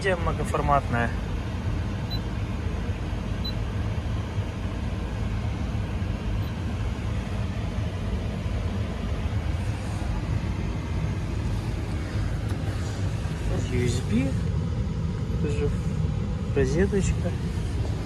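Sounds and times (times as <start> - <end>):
car cabin low rumble: 0.0 - 18.0.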